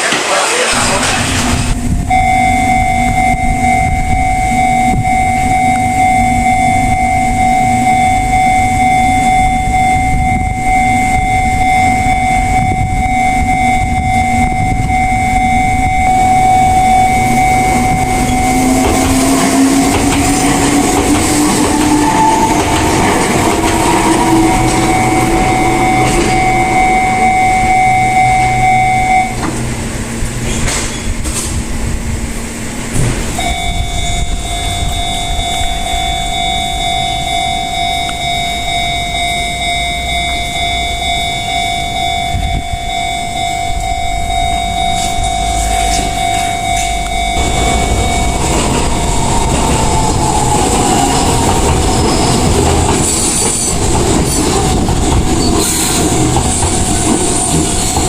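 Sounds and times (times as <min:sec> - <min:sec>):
electric train whine: 0:00.0 - 0:58.0
level crossing alarm: 0:00.6 - 0:29.8, 0:33.3 - 0:58.0.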